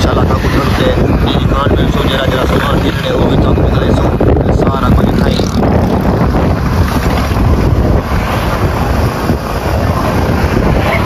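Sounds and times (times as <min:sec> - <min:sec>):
motorcycle engine and road noise: 0:00.0 - 0:11.0
wind buffeting microphone: 0:00.0 - 0:11.0.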